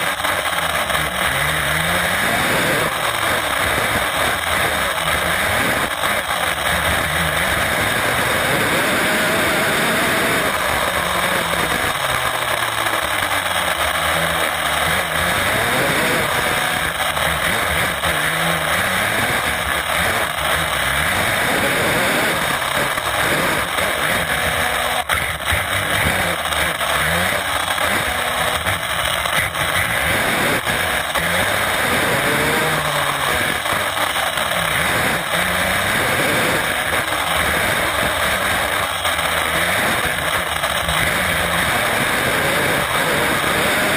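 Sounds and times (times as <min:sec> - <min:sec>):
electric motor and gear whine: 0:00.0 - 0:43.9
tyre and road noise: 0:00.0 - 0:43.9.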